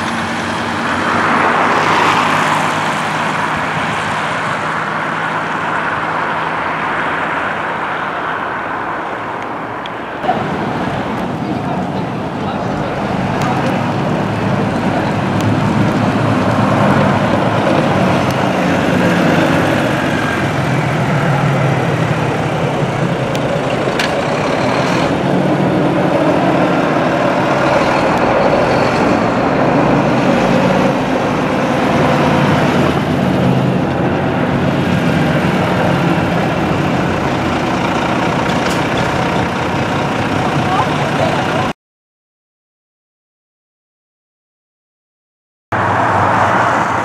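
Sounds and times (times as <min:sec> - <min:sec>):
bus diesel engine running: 0:00.0 - 0:41.7.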